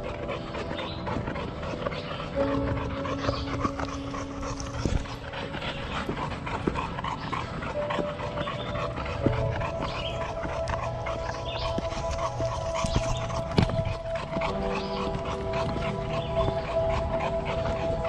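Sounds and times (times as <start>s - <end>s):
person panting: 0.0s - 18.0s.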